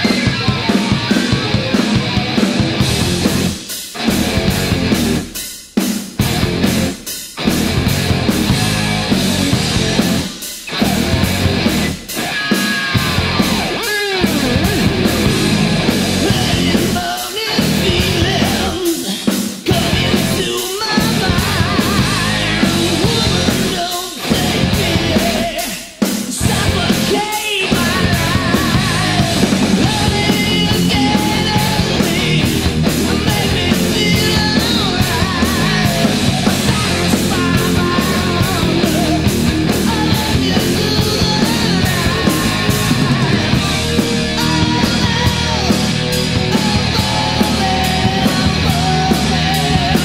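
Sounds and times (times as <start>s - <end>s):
distorted electric guitar: 0.0s - 5.4s, 6.2s - 25.8s, 26.4s - 50.0s
drums: 0.0s - 50.0s
heavy metal band playing: 0.0s - 50.0s.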